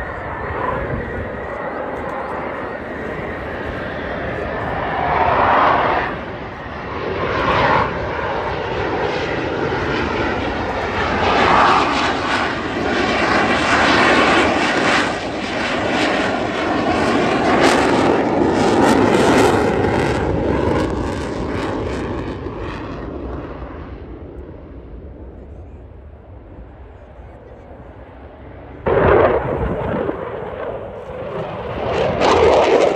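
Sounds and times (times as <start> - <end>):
jet engine roar: 0.0 - 32.9.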